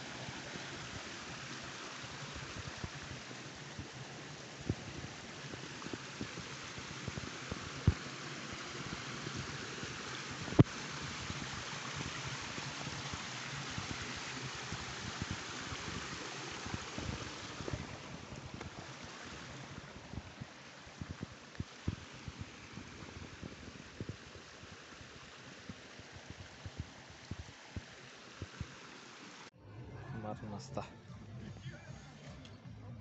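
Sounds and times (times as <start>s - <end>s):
rain falling on water and rock: 0.0s - 29.5s.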